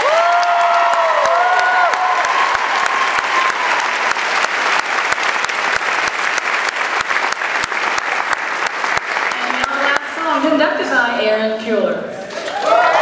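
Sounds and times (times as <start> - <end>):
crowd applauding: 0.0 - 10.5, 12.3 - 13.0.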